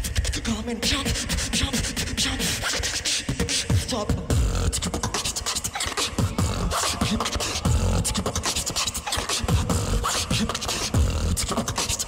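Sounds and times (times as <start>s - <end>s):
beatboxing into a microphone: 0.0s - 12.0s.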